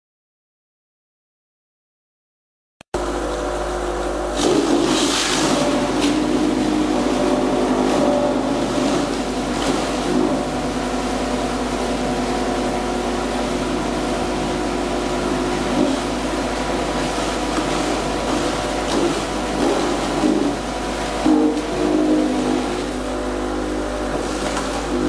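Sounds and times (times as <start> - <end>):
machine hum with steady tones: 3.0 - 25.0
wet concrete pouring into mould: 4.4 - 25.0.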